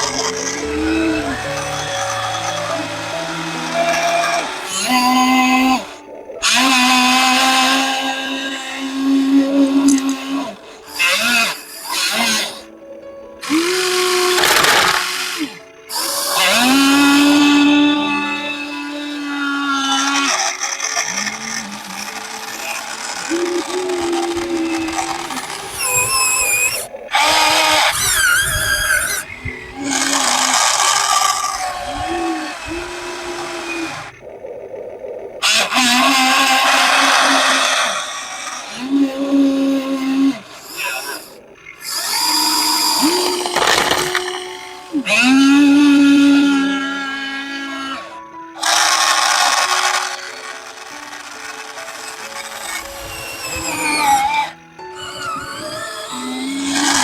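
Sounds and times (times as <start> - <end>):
small electric motors whining: 0.0 - 12.8, 13.4 - 34.3, 35.4 - 57.0.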